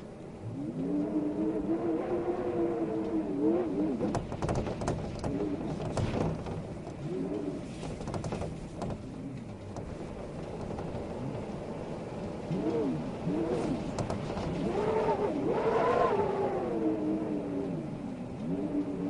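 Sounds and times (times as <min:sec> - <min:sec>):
light crackles: 0:00.0 - 0:19.0
wind noise: 0:00.0 - 0:19.0.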